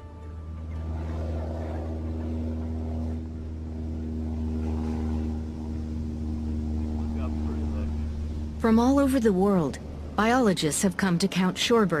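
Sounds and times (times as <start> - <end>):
low engine drone: 0.0 - 12.0
pitched hum: 0.0 - 12.0.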